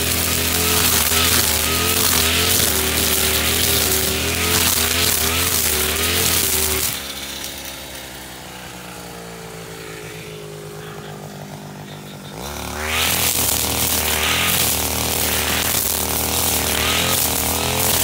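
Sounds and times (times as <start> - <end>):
brush cutter engine revving: 0.0 - 18.0.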